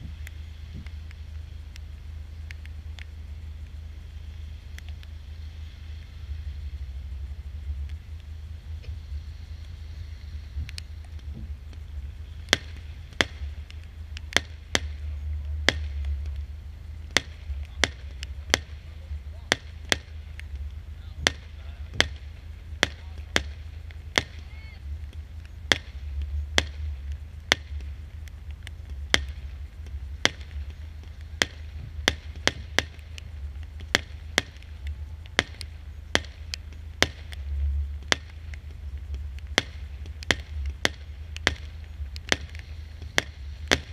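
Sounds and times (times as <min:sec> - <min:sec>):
fireworks bangs: 0:00.0 - 0:43.9
low rumble: 0:00.0 - 0:43.9.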